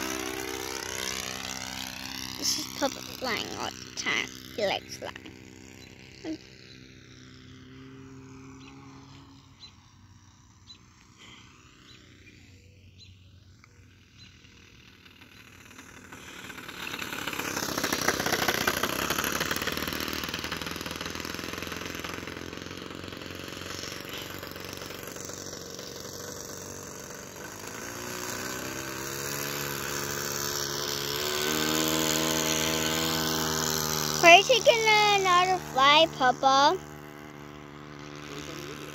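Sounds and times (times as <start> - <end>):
model plane engine: 0.0 - 38.9.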